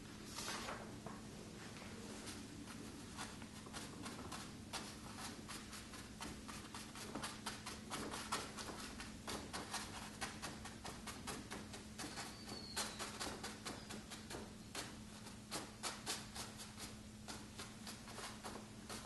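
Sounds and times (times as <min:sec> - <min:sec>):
steady low hum: 0:00.0 - 0:19.0
brush tapping on paper: 0:02.7 - 0:19.0.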